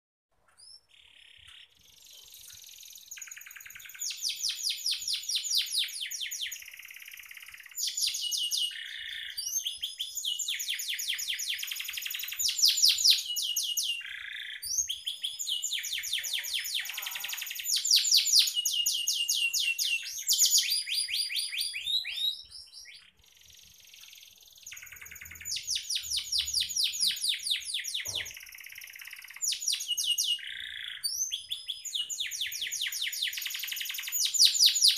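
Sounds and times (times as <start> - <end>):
canary singing trills: 0.5 - 34.9.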